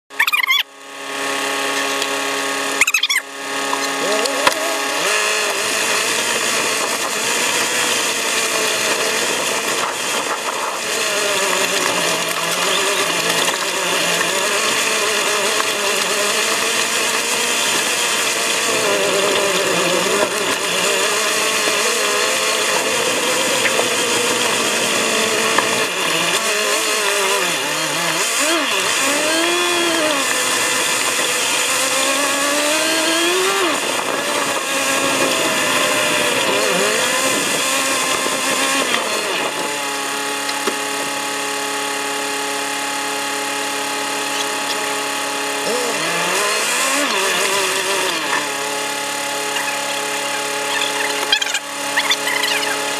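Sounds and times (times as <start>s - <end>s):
car engine labouring: 0.1s - 52.9s.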